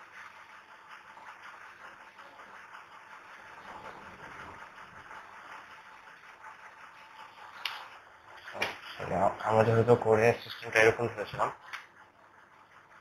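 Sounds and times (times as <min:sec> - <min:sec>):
marker pen scratching on whiteboard: 0:00.0 - 0:13.0.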